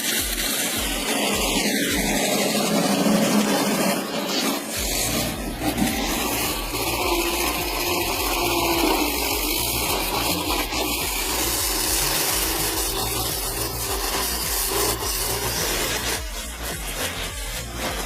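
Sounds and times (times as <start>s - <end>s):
continuous scraping rubbing noise: 0.0s - 18.0s
machinery engine running: 0.0s - 18.0s.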